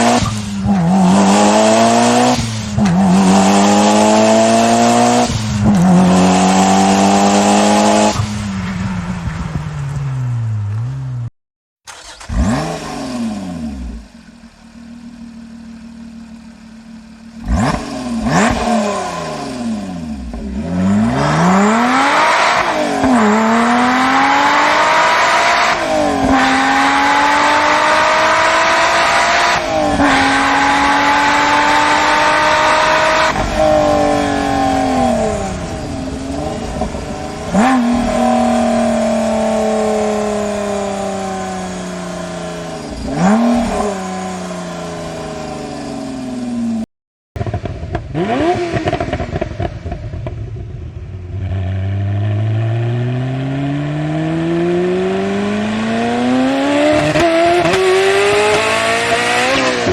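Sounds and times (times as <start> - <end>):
car engine revving and accelerating: 0.0 - 8.5, 11.9 - 14.2, 17.3 - 46.8, 47.4 - 50.6, 51.3 - 59.9.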